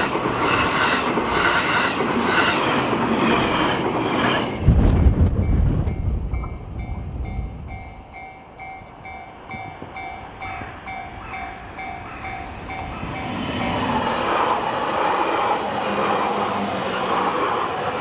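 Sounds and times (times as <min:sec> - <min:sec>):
approaching train rushing noise: 0:00.0 - 0:18.0
train rumble: 0:00.0 - 0:18.0.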